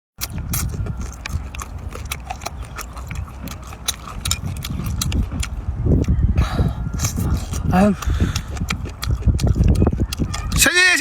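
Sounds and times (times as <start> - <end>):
chewing with crisp clicks: 0.1 - 11.0
wet smacks: 0.2 - 6.1, 6.8 - 10.7.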